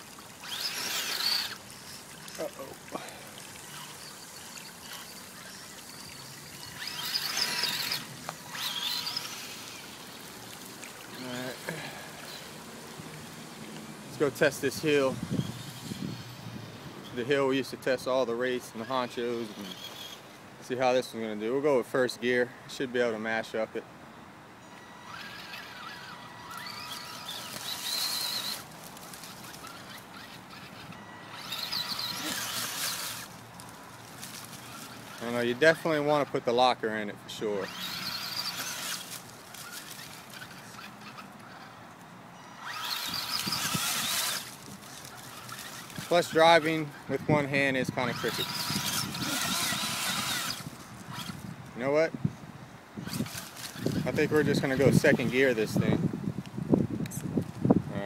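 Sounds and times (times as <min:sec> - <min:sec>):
electric motor whining: 0:00.0 - 0:17.4, 0:18.7 - 0:20.3, 0:24.7 - 0:36.3, 0:37.5 - 0:41.8, 0:42.4 - 0:51.5, 0:53.0 - 0:56.0
creek trickling: 0:00.0 - 0:21.3, 0:24.9 - 0:51.8, 0:52.8 - 0:55.9.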